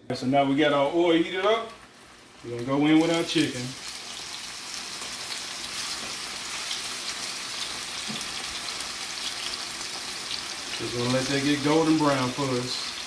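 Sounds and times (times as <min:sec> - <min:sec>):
chicken sizzling in hot oil: 0:00.7 - 0:13.0.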